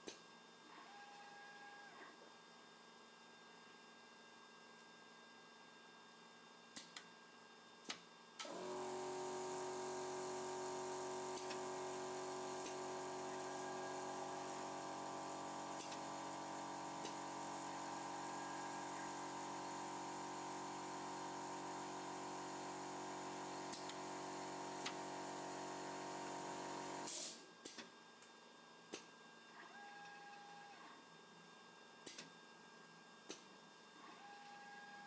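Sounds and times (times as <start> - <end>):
machine hum with held tones: 0.0 - 27.5, 28.2 - 35.0.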